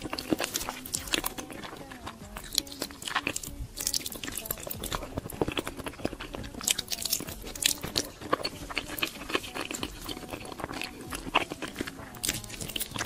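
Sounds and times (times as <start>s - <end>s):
person chewing sticky food: 0.0s - 13.0s.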